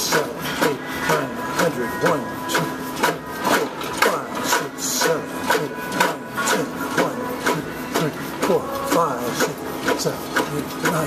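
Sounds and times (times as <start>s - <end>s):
weight stack rasping strokes: 0.0s - 11.0s.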